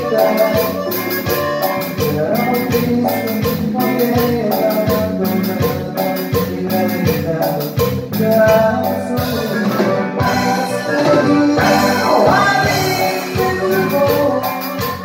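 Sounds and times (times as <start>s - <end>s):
drum kit beat: 0.0s - 15.0s
electric bass: 0.0s - 15.0s
electric keyboard: 0.0s - 15.0s.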